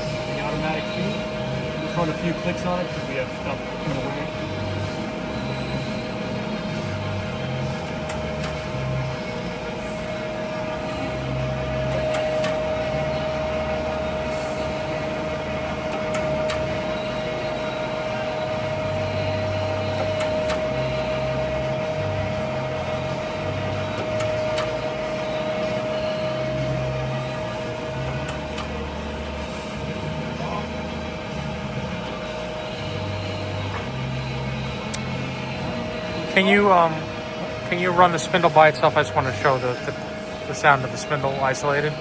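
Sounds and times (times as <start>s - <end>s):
grinder whine: 0.0s - 42.0s.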